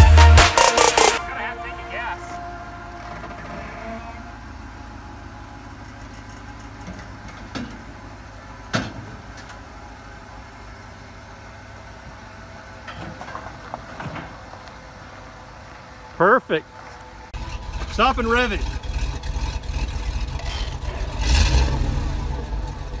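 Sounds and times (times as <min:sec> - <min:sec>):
engine idling with misfire: 0:00.0 - 0:23.0.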